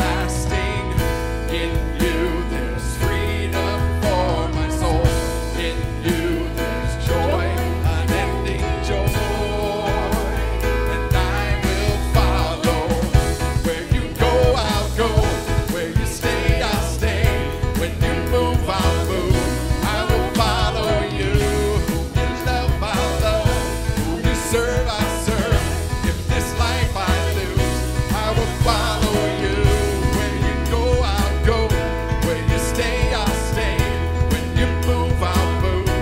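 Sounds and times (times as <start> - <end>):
drum kit beat: 0.0 - 36.0
electric keyboard: 0.0 - 36.0
voices singing: 0.0 - 36.0.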